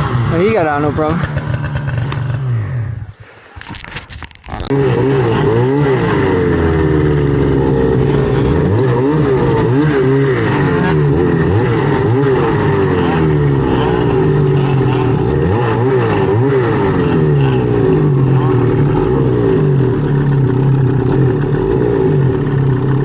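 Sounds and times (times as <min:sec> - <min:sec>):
snowmobile engine revving: 0:00.0 - 0:03.2, 0:04.6 - 0:23.0.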